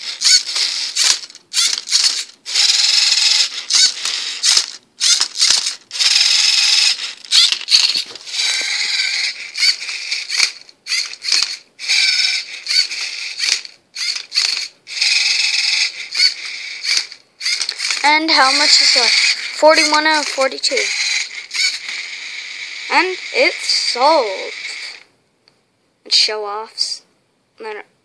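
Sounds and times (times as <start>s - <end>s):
servo motors whirring: 0.0s - 25.0s.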